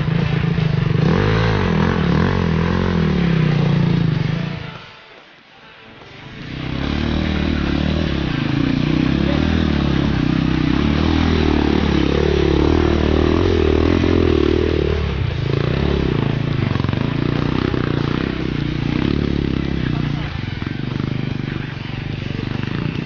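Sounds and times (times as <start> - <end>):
dirt bike engine revving: 0.0 - 4.7, 6.3 - 23.0.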